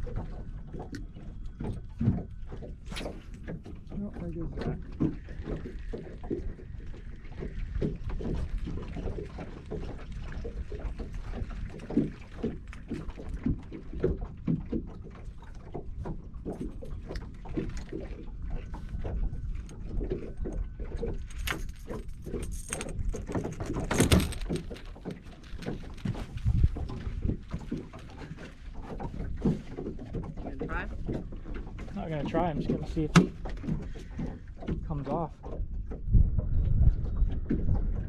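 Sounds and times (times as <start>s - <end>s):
waves lapping against hull: 0.0s - 38.0s.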